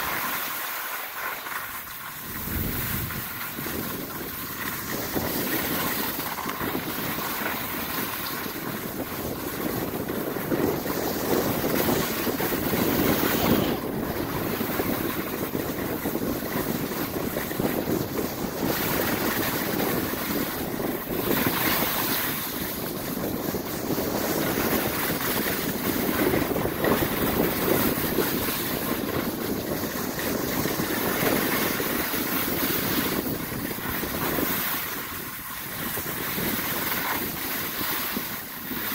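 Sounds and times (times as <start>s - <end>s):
skis hissing over snow: 0.0s - 38.9s
wind buffeting microphone: 1.8s - 38.9s.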